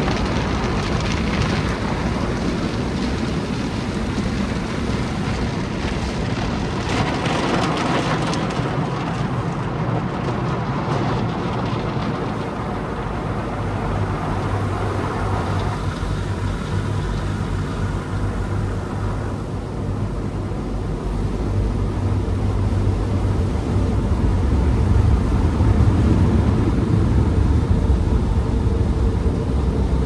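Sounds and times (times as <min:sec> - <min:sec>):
car wash machinery noise: 0:00.0 - 0:30.0.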